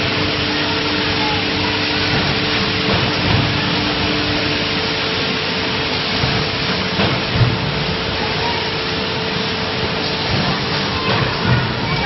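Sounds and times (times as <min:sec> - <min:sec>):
machine hissing and humming: 0:00.0 - 0:12.0.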